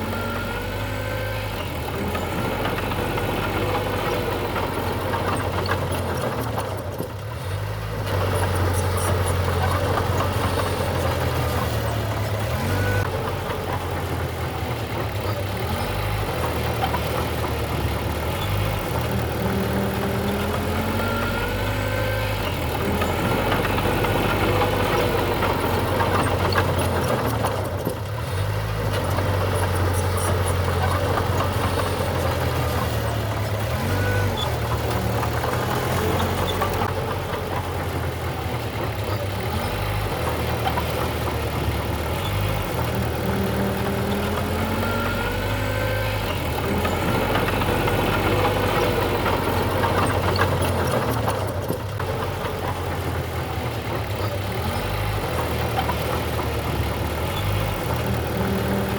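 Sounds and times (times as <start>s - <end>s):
heavy machinery diesel engine: 0.0s - 58.9s.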